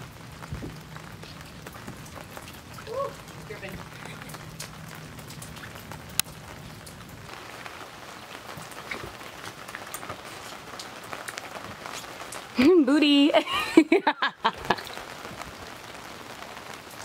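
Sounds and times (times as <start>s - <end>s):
rain pattering on canvas: 0.0s - 17.0s.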